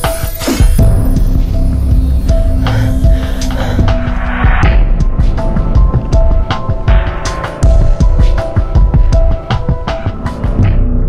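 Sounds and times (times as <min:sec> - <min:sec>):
fast beat-driven music: 0:00.0 - 0:11.0.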